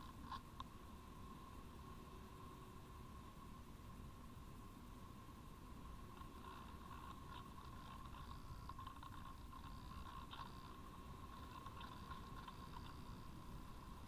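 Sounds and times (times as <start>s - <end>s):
faint crackles: 0.0s - 3.0s, 4.4s - 14.0s
steady high hum: 0.0s - 14.0s.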